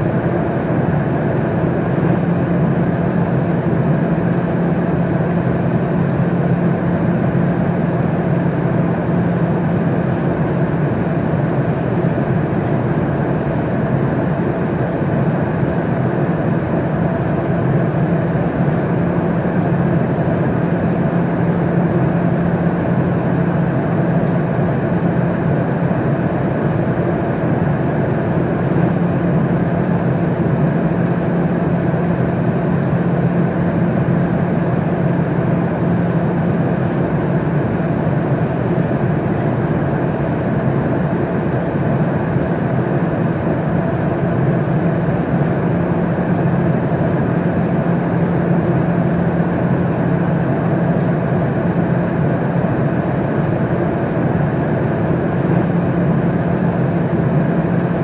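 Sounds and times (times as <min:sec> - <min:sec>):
airliner cabin engine noise: 0:00.0 - 0:58.0.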